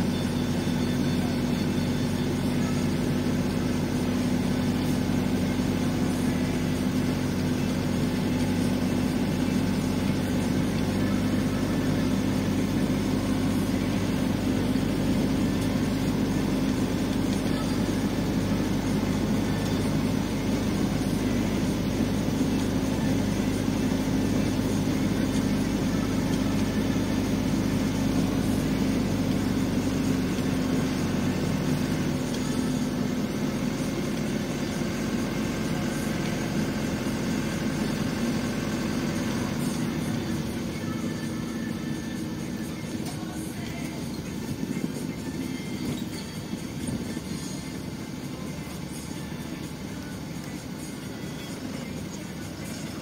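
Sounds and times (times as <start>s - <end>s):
bus engine running: 0.0s - 53.0s
road noise: 0.0s - 53.0s.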